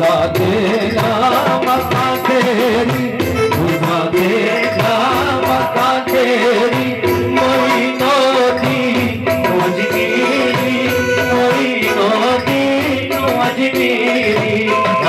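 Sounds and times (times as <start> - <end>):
keyboard holding steady notes: 0.0 - 15.0
men singing devotional song: 0.0 - 15.0
tabla drumming: 0.0 - 15.0.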